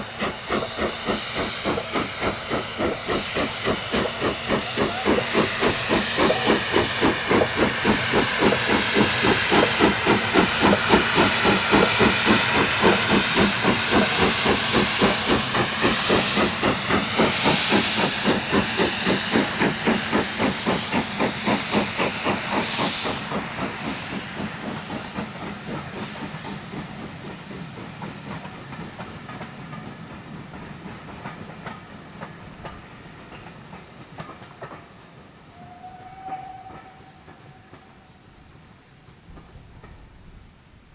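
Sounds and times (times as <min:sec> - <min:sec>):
loud hissing steam: 0:00.0 - 0:39.9
steam locomotive chuffing: 0:00.0 - 0:40.8.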